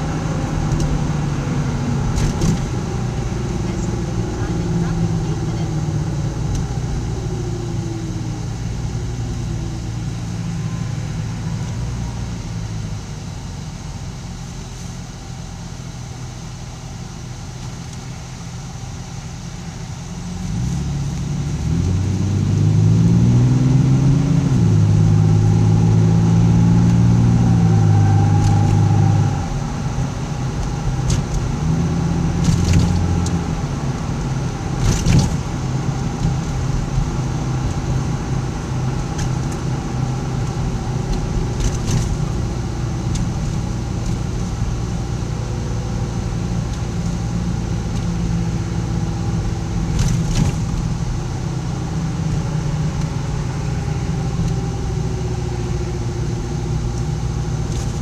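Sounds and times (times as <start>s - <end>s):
car engine: 0.0s - 58.0s
road noise: 0.0s - 58.0s.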